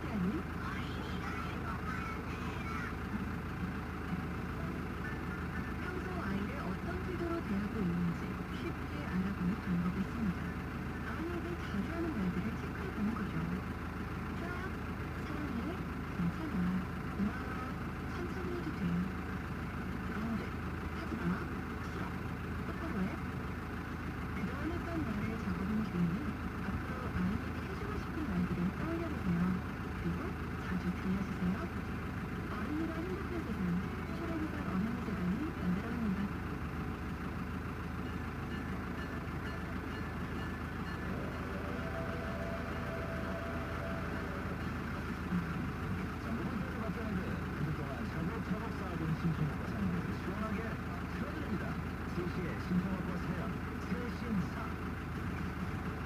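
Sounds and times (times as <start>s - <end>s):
low engine-like hum: 0.0s - 56.0s
low mechanical rumble: 0.0s - 56.0s
faint steady tone: 2.9s - 56.0s.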